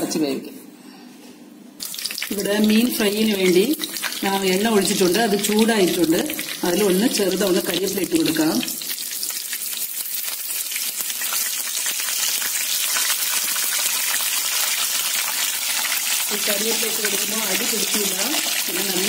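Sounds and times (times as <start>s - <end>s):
fish laid into hot oil: 1.8s - 19.0s
hot oil sizzling in a pan: 1.8s - 19.0s.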